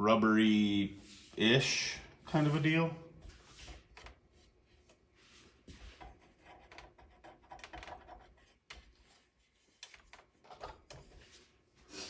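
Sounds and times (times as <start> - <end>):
rubbing and scratching handling noises: 0.4 - 12.0.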